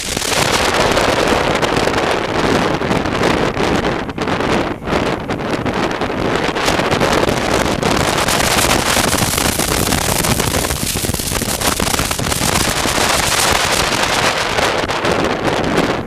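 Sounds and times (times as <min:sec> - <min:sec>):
motorcycle engine running: 0:00.0 - 0:15.3
heavy wind on microphone: 0:00.0 - 0:16.0.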